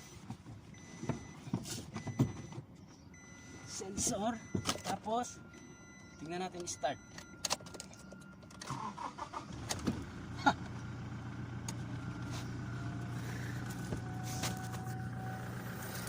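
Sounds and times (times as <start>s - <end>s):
car engine cranking and idling: 0.0s - 16.0s.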